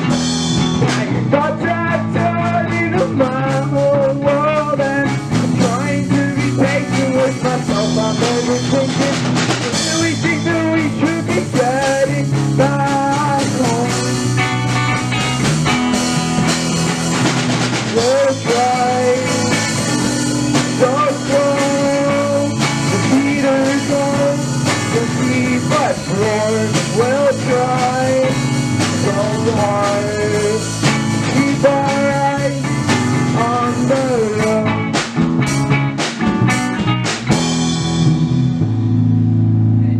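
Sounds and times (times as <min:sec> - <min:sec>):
electric guitar lead line: 0:00.0 - 0:39.9
rock band playing: 0:00.0 - 0:39.9.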